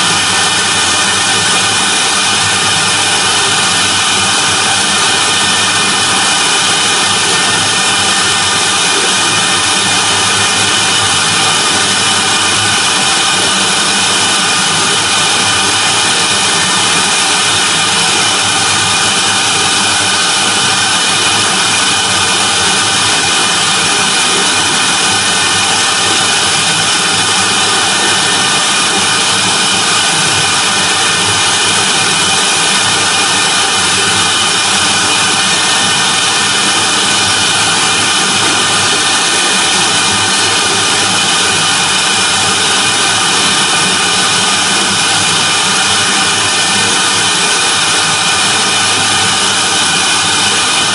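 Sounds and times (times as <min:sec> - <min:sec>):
router spindle whining: 0:00.0 - 0:50.9.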